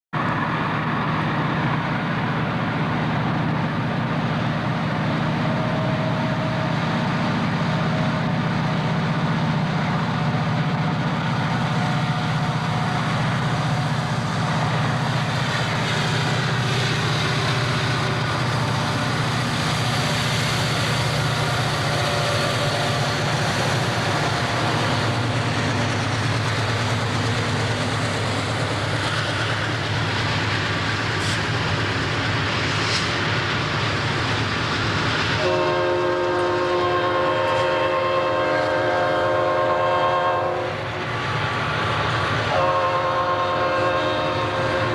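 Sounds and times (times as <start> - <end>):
diesel locomotive engine drone: 0.1 - 44.9
train rumble: 0.1 - 44.9.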